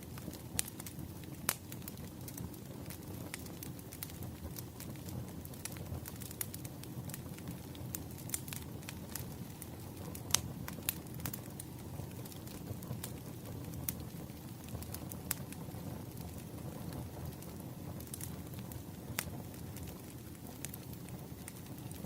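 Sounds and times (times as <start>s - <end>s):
fire flames rumbling: 0.0s - 22.0s
firewood popping and crackling: 0.0s - 22.0s.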